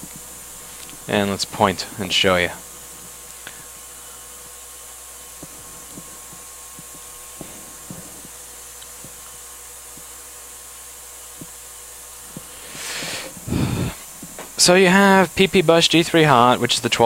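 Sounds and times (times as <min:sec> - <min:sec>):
room hiss with faint hum: 0:00.0 - 0:17.0.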